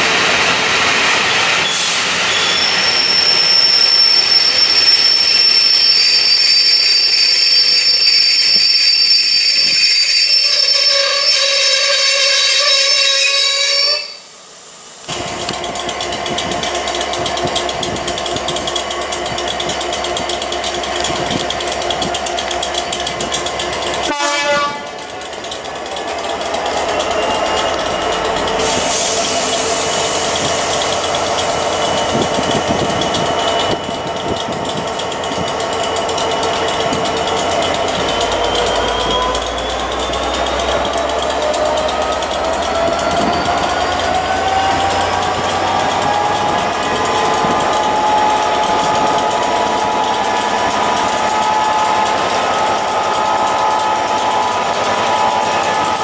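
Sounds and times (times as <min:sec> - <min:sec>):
train running noise: 0:00.0 - 0:56.0
train whine rising in pitch: 0:00.0 - 0:56.0.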